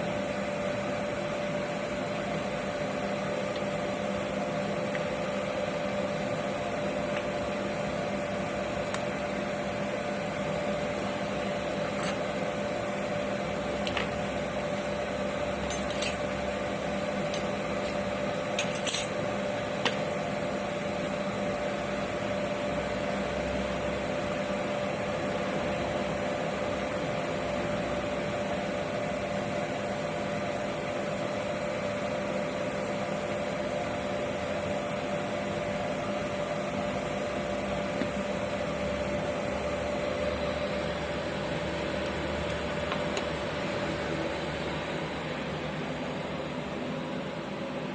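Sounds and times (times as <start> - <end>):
oil burner humming: 0.0 - 47.9.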